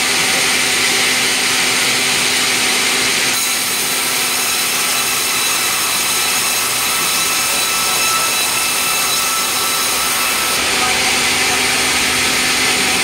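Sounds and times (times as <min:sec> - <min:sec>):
sawmill saw cutting timber: 0:00.0 - 0:13.0.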